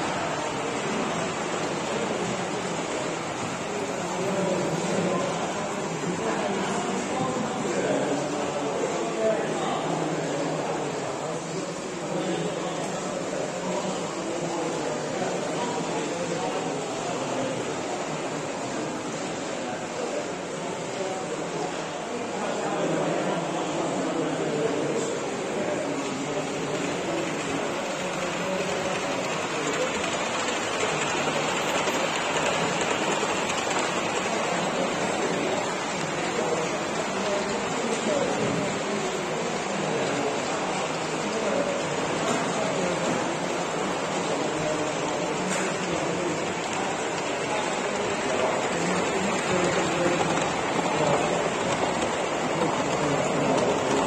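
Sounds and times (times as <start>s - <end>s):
exhibition hall hubbub: 0.0s - 54.0s
faint murmur of distant voices: 0.0s - 54.0s.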